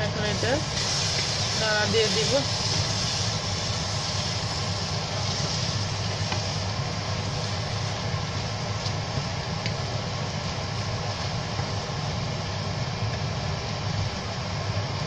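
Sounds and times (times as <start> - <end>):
wooden spatula stirring in a pan: 0.0 - 12.5
steady low hum and hiss: 0.0 - 15.0.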